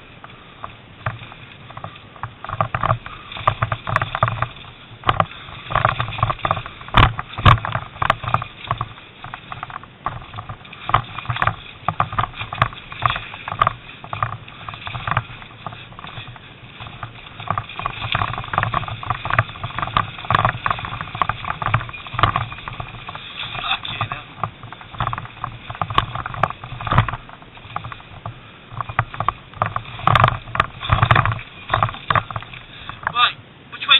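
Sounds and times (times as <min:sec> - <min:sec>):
knocks and rattles: 0:00.0 - 0:33.4
motorcycle engine: 0:00.0 - 0:33.4.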